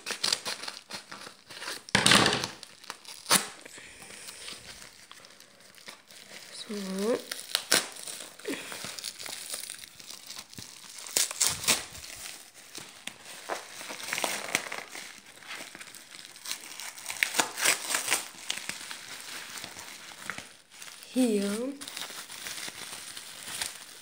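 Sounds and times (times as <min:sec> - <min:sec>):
packaging crinkling: 0:00.0 - 0:24.0
packaging tearing: 0:00.0 - 0:24.0.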